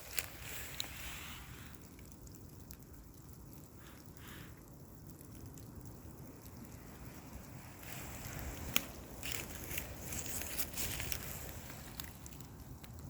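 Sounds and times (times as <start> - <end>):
rustling and crackling: 0.0 - 2.8, 5.1 - 13.0
wind rumble on microphone: 0.0 - 13.0.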